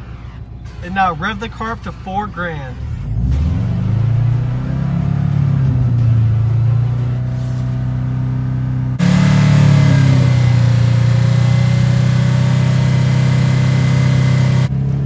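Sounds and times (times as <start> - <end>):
car engine held at high revs: 2.9 - 15.0.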